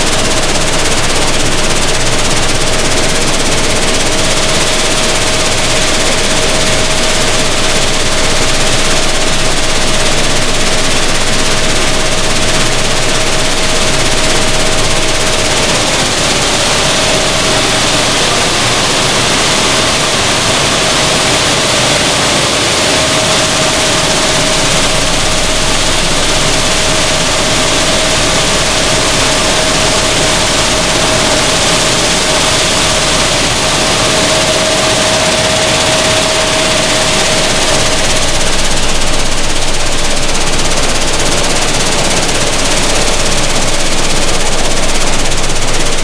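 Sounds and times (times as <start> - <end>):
seed hulling machine running: 0.0 - 46.0
steady mid-pitched hum: 0.0 - 46.0.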